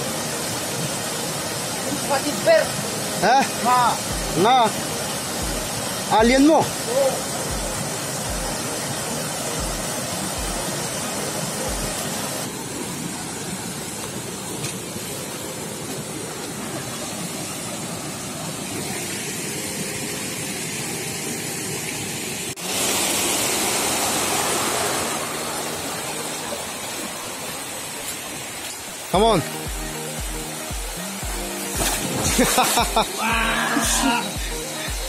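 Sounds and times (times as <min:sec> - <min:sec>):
waterfall and rapids rushing: 0:00.0 - 0:35.0.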